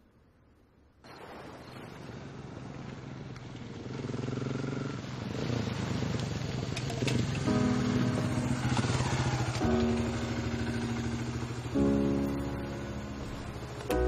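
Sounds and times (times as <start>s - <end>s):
motorcycle engine approaching: 1.8s - 14.0s.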